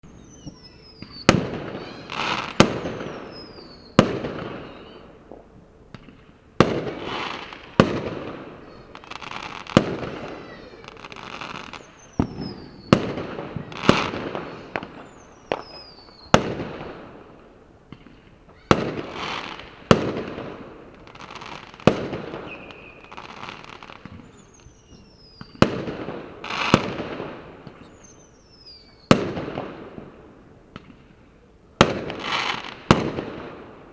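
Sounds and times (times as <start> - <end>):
fireworks bangs: 0.0 - 31.2, 31.8 - 33.9.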